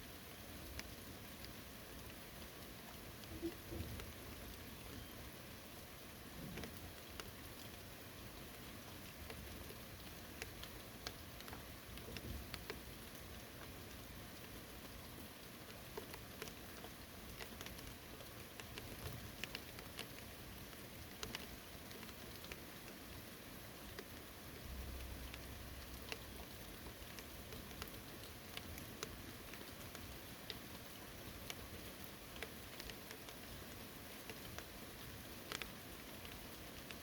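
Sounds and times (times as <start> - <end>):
faint rain falling: 0.0 - 37.0
sharp water drips: 0.1 - 37.0.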